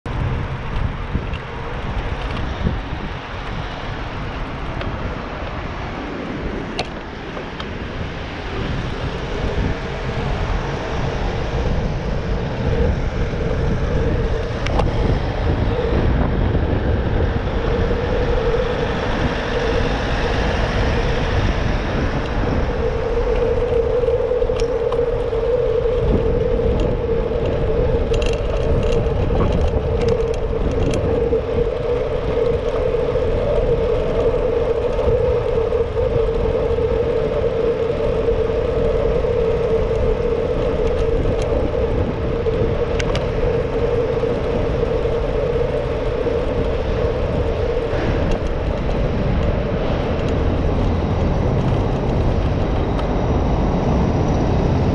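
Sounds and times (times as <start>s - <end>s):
bicycle riding rumble: 0.0s - 54.9s.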